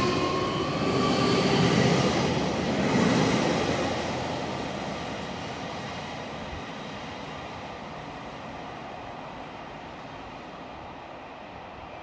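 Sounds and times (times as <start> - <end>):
electric train inverter whine: 0.0 - 12.0.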